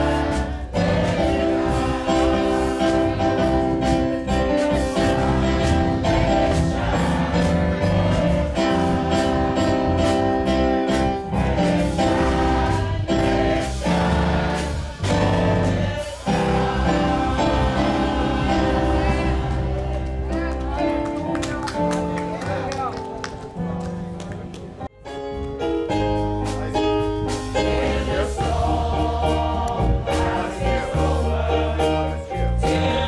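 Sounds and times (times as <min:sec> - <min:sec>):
gospel choir singing: 0:00.0 - 0:21.1, 0:27.2 - 0:33.0
bass line: 0:00.0 - 0:22.6, 0:25.9 - 0:33.0
steady percussion: 0:00.0 - 0:22.8, 0:25.4 - 0:33.0.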